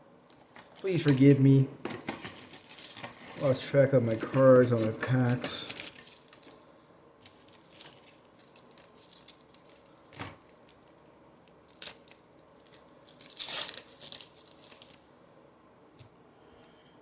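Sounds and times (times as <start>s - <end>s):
plastic wrapper crinkling and tearing: 0.3s - 6.6s, 7.2s - 15.2s.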